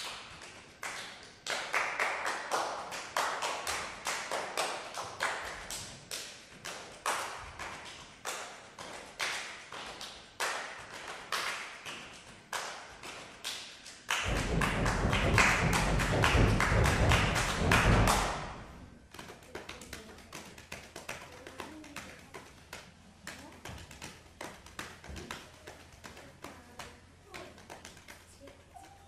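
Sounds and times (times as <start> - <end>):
percussive taps and claps: 0.0 - 29.0.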